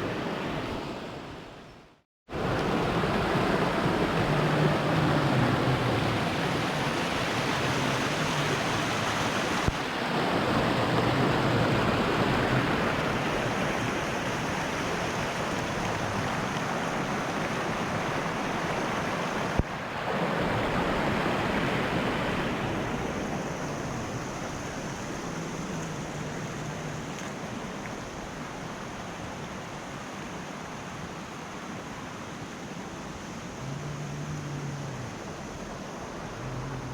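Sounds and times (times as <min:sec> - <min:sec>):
rushing falling water: 0:02.3 - 0:36.9.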